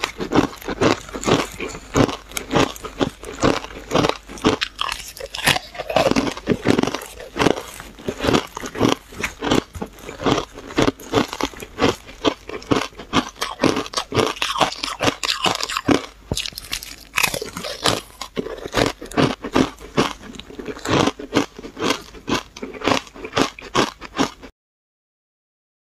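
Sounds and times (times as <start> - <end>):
ice crunching while chewed: 0.0 - 24.5.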